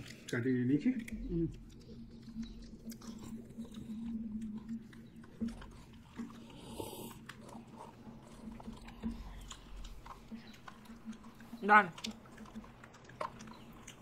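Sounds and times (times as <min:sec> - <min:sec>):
slurps and lip smacks: 0:00.0 - 0:14.0
steady low hum: 0:00.0 - 0:14.0.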